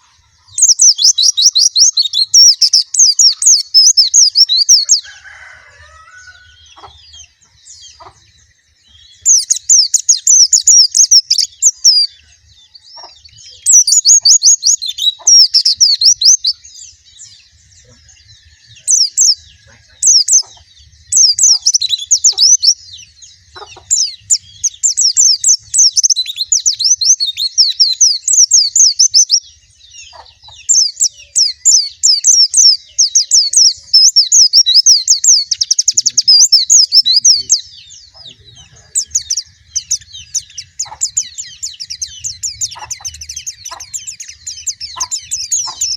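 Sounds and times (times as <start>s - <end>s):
bird twittering song: 0.0s - 45.9s.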